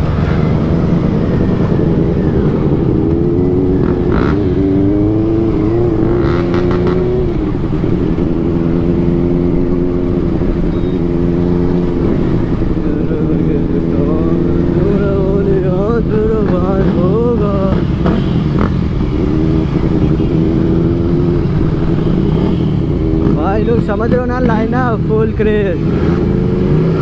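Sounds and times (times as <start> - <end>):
motorcycle engines: 0.0 - 27.0.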